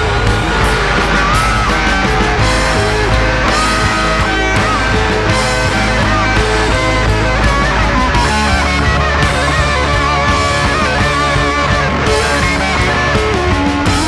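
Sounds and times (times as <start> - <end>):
instrumental guitar rock music: 0.0 - 14.0.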